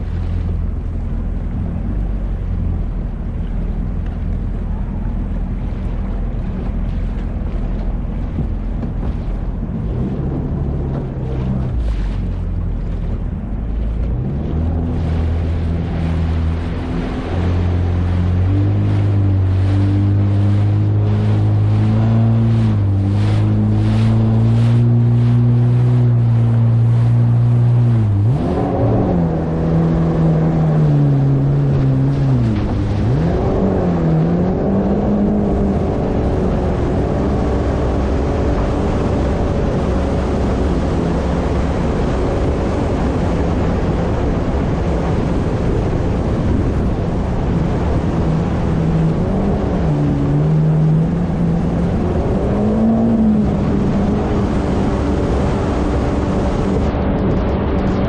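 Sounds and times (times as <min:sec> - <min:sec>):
jet ski engine running: 0:00.0 - 0:58.0
water and wind rushing: 0:00.0 - 0:58.0.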